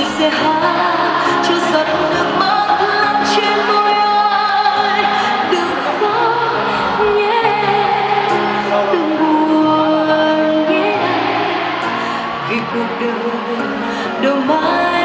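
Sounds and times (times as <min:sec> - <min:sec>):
backing music: 0:00.0 - 0:15.0
woman singing pop ballad: 0:00.0 - 0:15.0.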